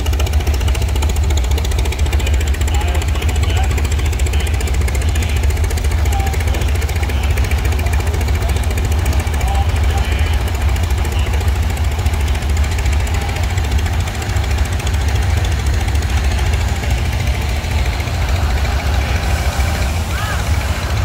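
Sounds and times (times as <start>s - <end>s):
tractor engine putting: 0.0s - 21.0s.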